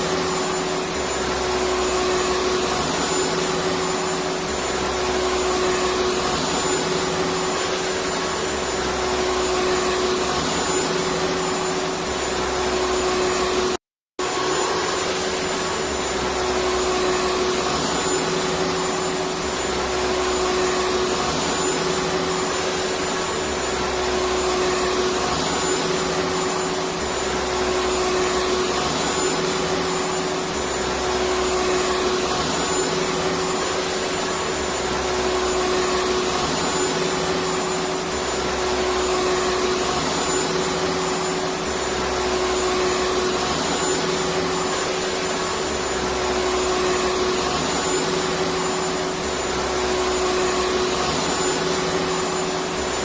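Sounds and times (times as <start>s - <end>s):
vacuum cleaner whirring: 0.0s - 53.0s.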